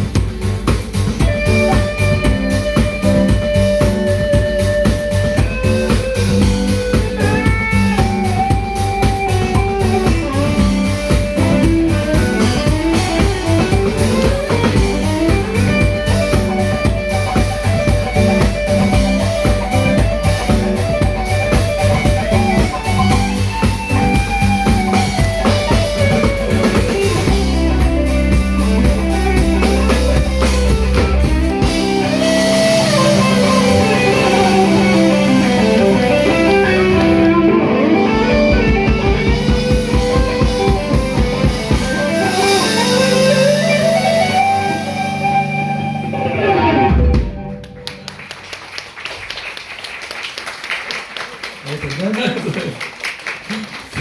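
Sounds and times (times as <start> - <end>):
held bass notes: 0.0 - 48.1
live band playing: 0.0 - 54.0.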